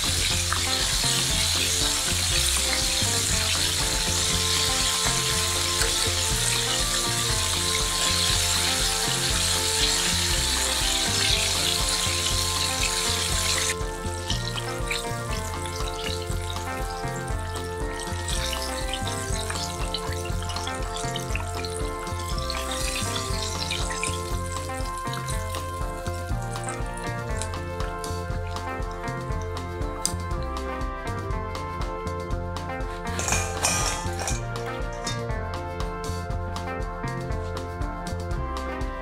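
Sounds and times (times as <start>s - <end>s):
chicken deep-frying in oil: 0.0s - 30.6s, 32.8s - 35.2s
background music with bass: 0.0s - 39.0s.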